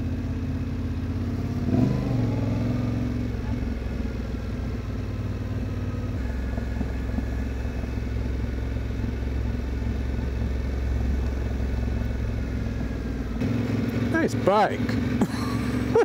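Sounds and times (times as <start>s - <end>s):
motorcycle engine humming: 0.0s - 16.0s.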